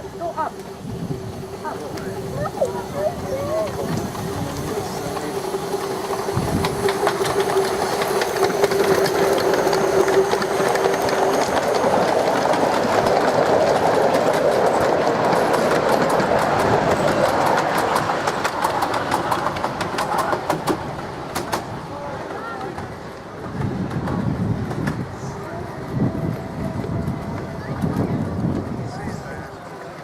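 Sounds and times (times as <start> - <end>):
miniature steam train running: 0.0 - 30.0
wheels clicking over rail joints: 0.0 - 30.0.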